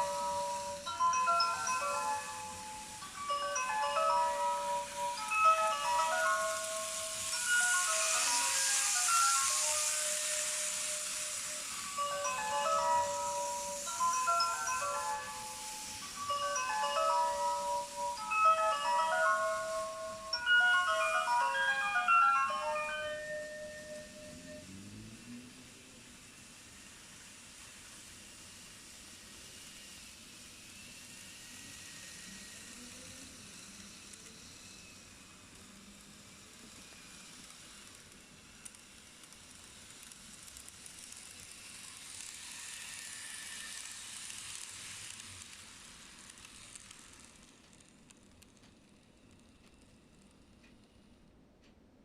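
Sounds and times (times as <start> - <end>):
model train whirring rattle: 0.0 - 51.9.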